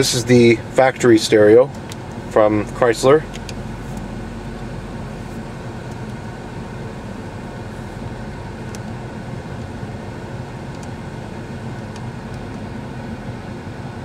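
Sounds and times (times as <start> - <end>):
climate-control fan: 0.0 - 14.0
van engine idling: 0.0 - 14.0.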